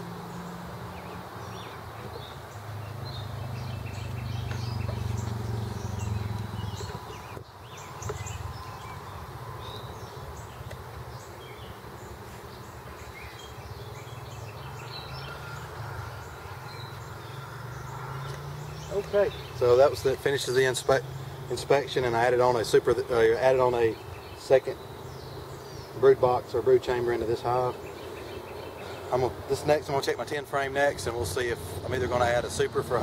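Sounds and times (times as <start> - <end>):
bees buzzing: 0.0 - 33.0
birds chirping: 0.0 - 33.0.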